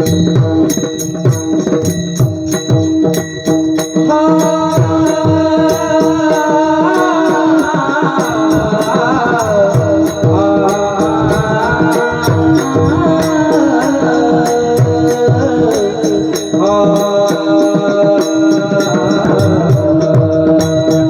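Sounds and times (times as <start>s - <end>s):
steady held drone tone: 0.0s - 20.0s
pakhawaj drumming: 0.0s - 21.0s
person singing: 4.1s - 21.0s.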